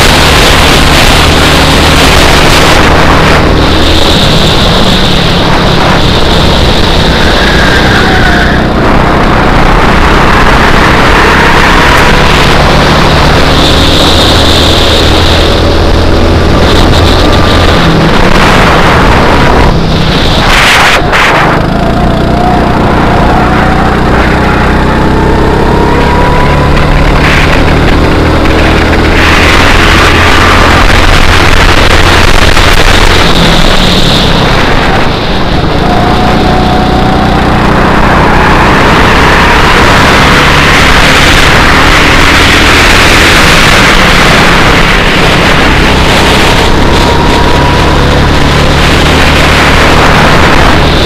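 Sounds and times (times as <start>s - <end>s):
go-kart engine running: 0.0s - 51.0s
wind and road noise: 0.0s - 51.0s.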